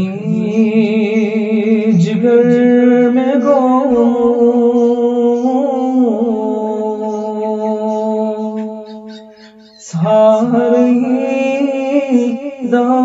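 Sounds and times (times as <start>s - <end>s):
man singing wordless held tone: 0.0s - 13.0s.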